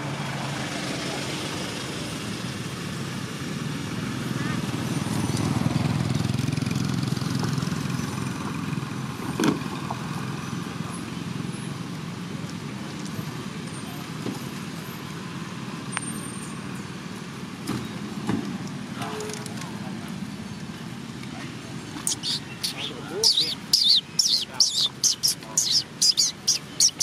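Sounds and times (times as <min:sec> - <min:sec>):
vehicle rumbling past: 0:00.0 - 0:27.0.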